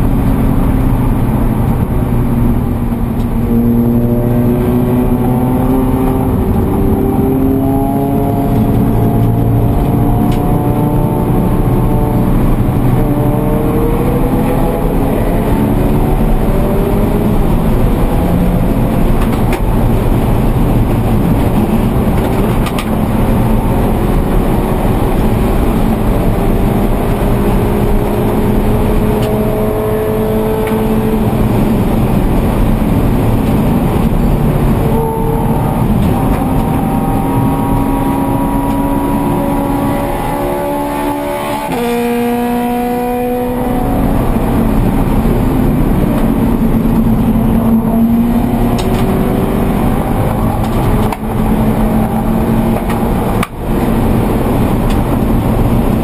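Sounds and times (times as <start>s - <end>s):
race car engine from inside cabin: 0.0s - 56.0s.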